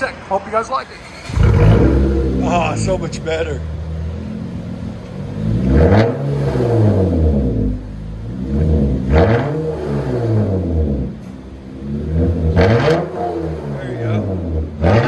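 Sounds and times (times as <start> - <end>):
car engine idling and revving: 0.7 - 15.0.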